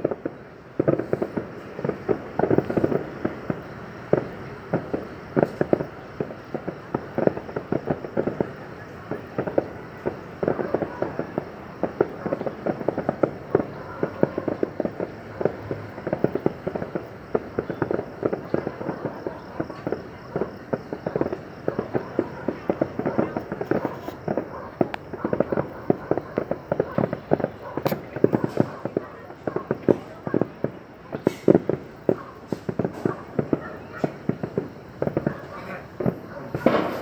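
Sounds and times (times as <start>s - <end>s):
fireworks popping and crackling: 0.0s - 37.0s.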